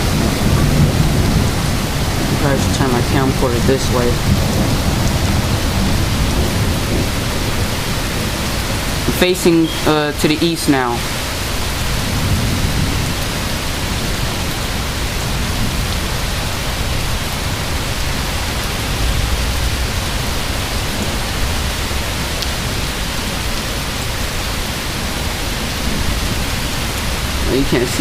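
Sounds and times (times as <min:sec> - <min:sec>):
heavy rain pouring: 0:00.0 - 0:28.0
thunder rumbling: 0:00.0 - 0:28.0.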